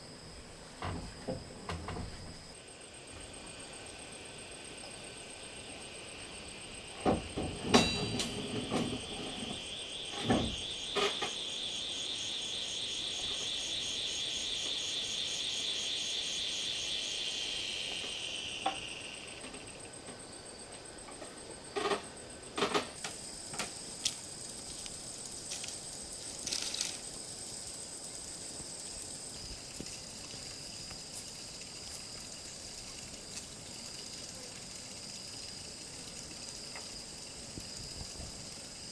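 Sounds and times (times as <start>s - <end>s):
high insect chorus: 0.0s - 38.9s
insects chirring: 0.0s - 38.9s.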